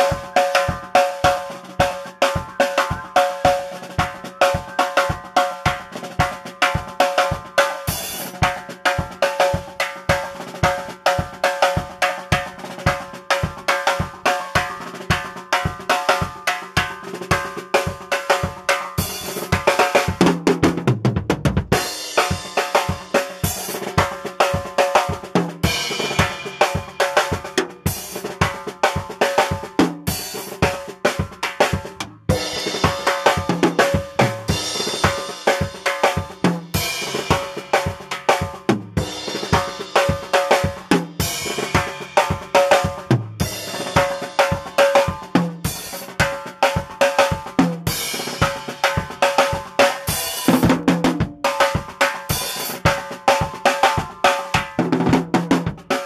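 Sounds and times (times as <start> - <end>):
fast drum kit groove: 0.0 - 56.0.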